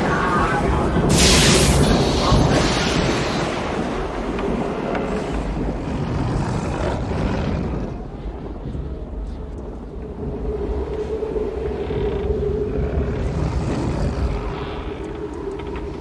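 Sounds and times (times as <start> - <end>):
deep rumble: 0.0 - 16.0
strong wind gusts: 0.0 - 16.0
whistling wind howl: 0.0 - 16.0.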